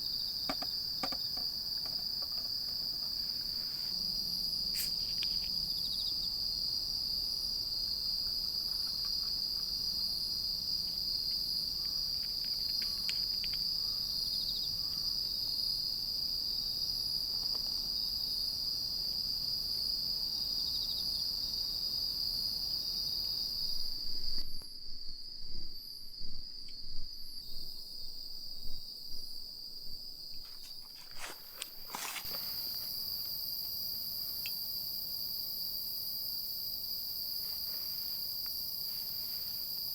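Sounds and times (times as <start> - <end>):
background hiss: 0.0 - 39.9
crickets trilling: 0.0 - 39.9.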